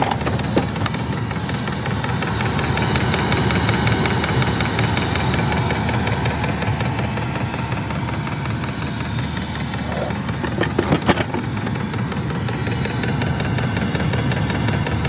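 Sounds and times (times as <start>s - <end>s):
heater combustion fan: 0.0s - 15.0s
rapid ticking: 0.0s - 15.0s.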